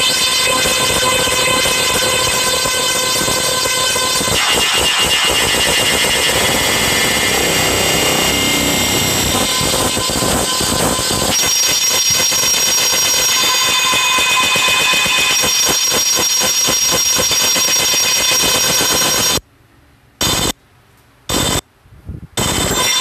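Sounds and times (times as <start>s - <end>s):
dense buzzing synthesized notes: 0.0s - 19.4s.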